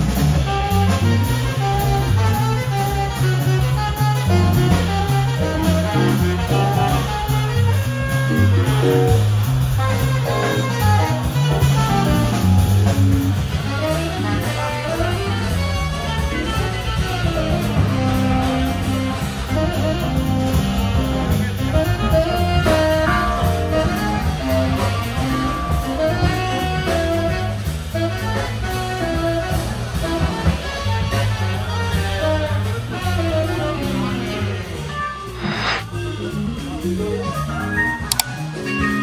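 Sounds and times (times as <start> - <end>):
live blues band: 0.0 - 39.0.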